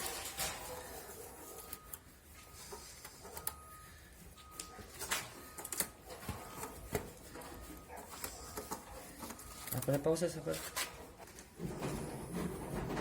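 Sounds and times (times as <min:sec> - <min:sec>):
taps and scrapes of cleaning: 0:00.0 - 0:13.0.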